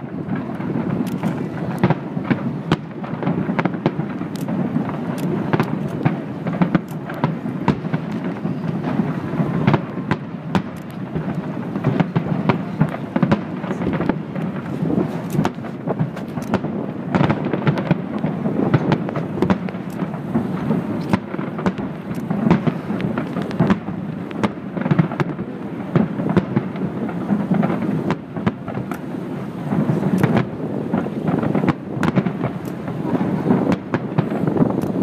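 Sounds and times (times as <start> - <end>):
firework sharp cracks: 0.0 - 35.0
firework shells booming: 0.0 - 35.0.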